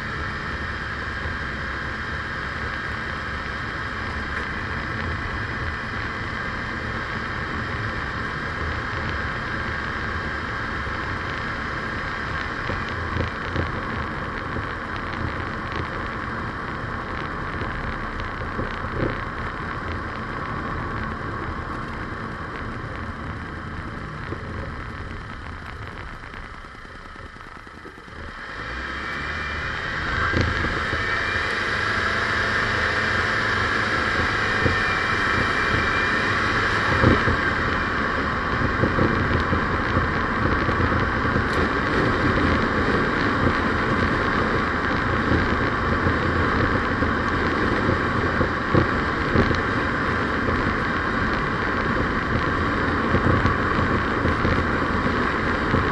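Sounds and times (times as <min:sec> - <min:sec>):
vehicle driving on road: 0:00.0 - 0:55.9.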